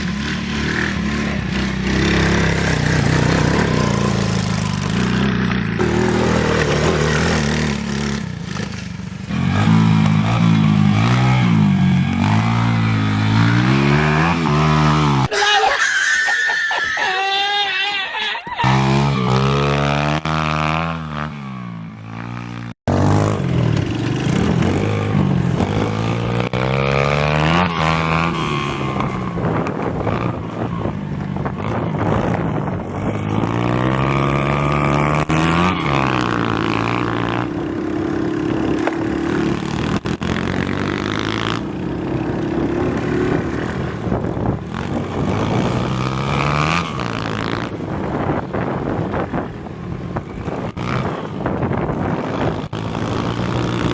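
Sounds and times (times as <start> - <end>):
pit bike engine revving: 0.0 - 15.3, 18.5 - 49.4, 50.2 - 53.9.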